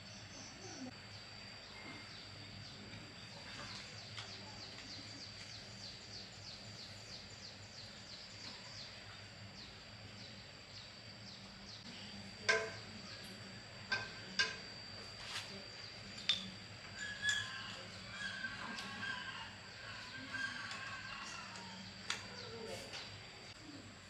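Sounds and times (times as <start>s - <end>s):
steady high whine: 0.0s - 24.0s.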